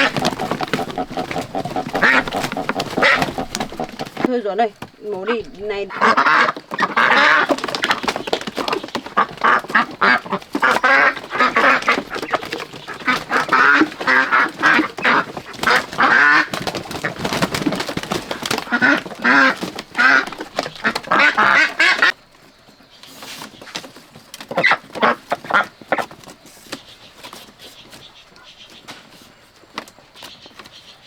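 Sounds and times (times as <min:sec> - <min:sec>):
ducks quacking: 0:00.0 - 0:22.2, 0:24.4 - 0:27.1.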